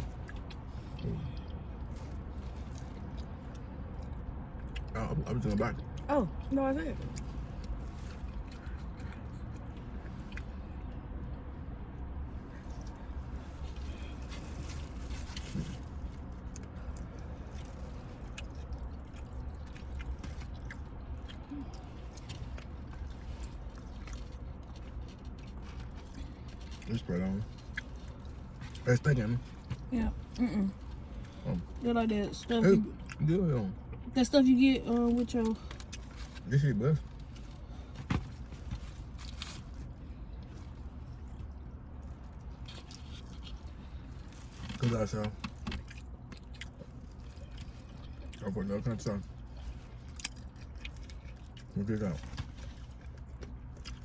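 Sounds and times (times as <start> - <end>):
person chewing food: 0.0 - 11.5, 12.2 - 31.8, 32.9 - 34.0, 35.5 - 36.4, 37.0 - 54.0
low steady hum: 0.0 - 54.0.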